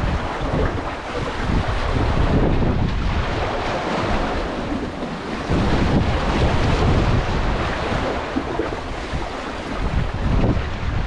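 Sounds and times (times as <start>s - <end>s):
sea waves washing against concrete: 0.0s - 11.0s
wind buffeting microphone: 0.0s - 11.0s.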